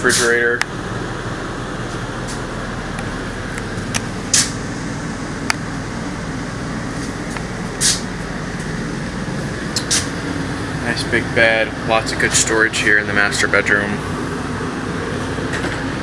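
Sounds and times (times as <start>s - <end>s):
mechanical hum with low drone: 0.0s - 16.0s.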